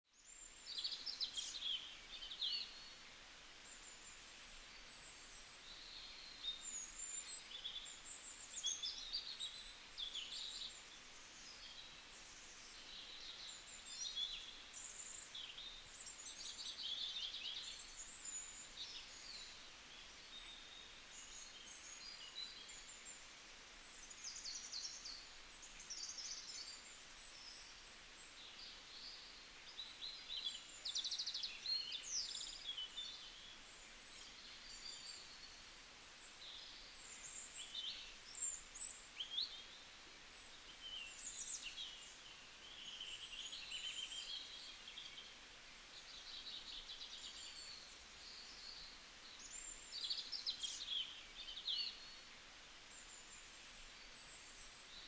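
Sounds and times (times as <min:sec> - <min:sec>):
faint steady hiss: 0:00.0 - 0:55.0
small birds singing and chirping: 0:00.0 - 0:55.0.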